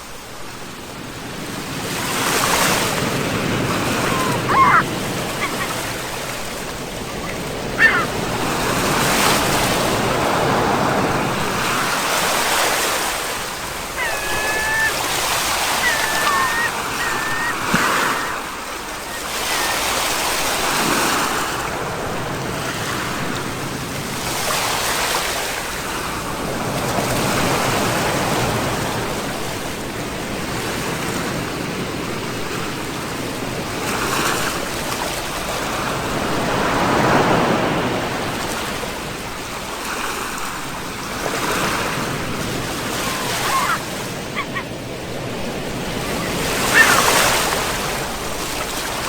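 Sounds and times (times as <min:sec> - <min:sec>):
sea waves washing onto shore: 0:00.0 - 0:49.0.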